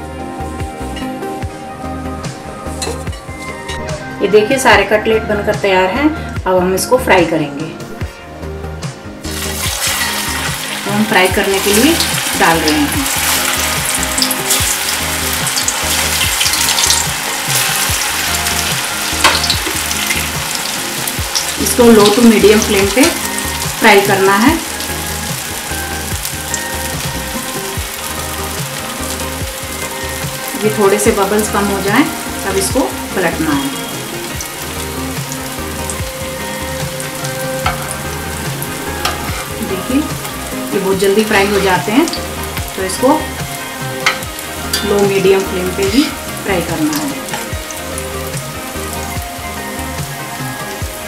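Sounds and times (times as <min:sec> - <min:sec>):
deep-frying sizzling in hot oil: 0:09.2 - 0:51.0.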